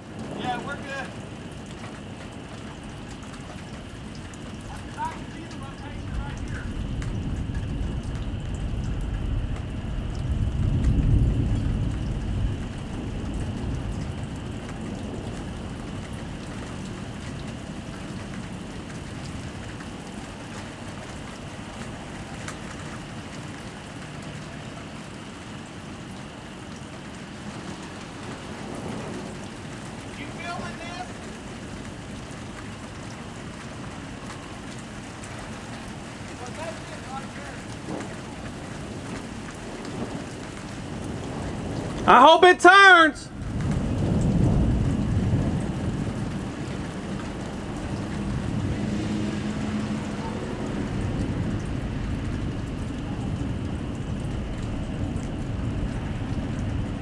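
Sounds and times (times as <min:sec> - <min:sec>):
low thunder rumble: 0:00.0 - 0:42.2, 0:43.2 - 0:57.0
gusting wind: 0:00.0 - 0:57.0
sharp raindrop hits: 0:00.0 - 0:57.0
steady rain: 0:00.0 - 0:57.0.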